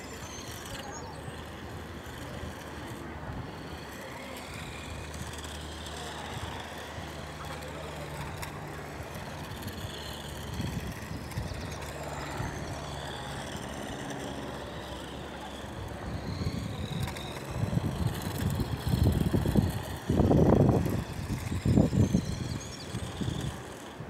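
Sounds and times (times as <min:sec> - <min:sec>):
model car driving over concrete: 0:00.0 - 0:24.0
wind buffeting microphone: 0:00.0 - 0:24.0.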